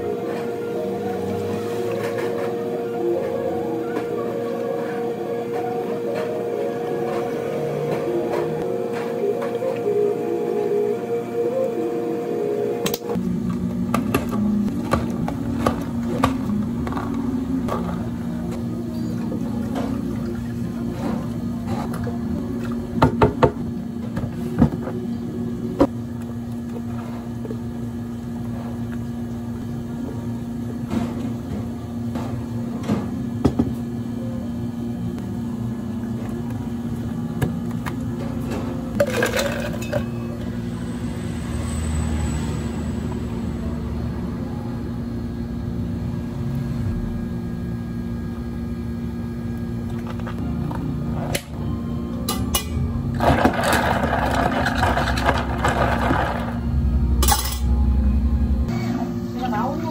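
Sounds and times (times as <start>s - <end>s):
low hum of cafe equipment: 0.0s - 59.9s.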